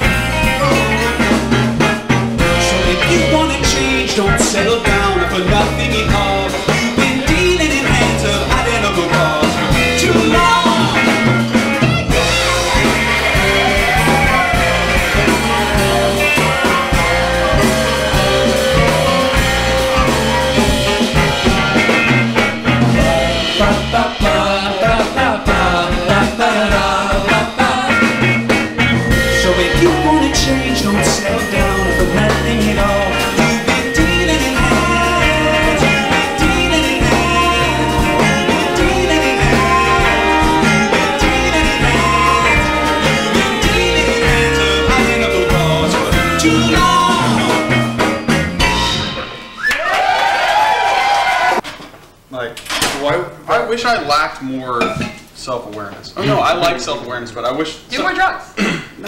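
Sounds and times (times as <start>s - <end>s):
bass and drum groove: 0.0s - 52.2s
person singing: 0.4s - 48.7s.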